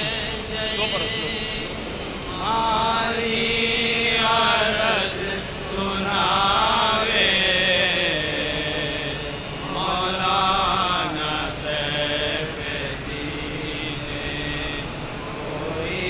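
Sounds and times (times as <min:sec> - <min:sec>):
person chanting religious recitation: 0:00.0 - 0:16.0.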